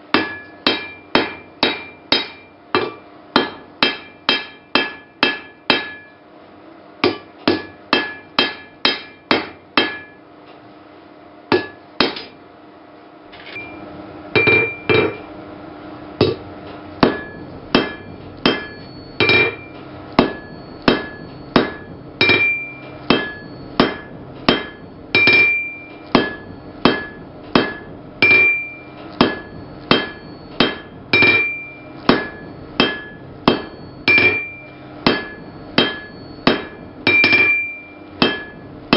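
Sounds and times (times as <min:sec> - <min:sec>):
hammer striking anvil: 0:00.1 - 0:06.2, 0:07.0 - 0:10.2, 0:11.5 - 0:12.4, 0:14.4 - 0:15.3, 0:17.0 - 0:38.9.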